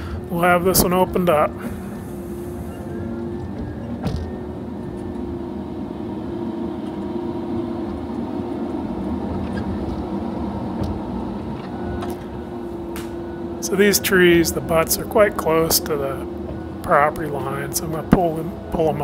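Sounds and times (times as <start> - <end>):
diesel engine and hydraulics drone: 0.0 - 19.0.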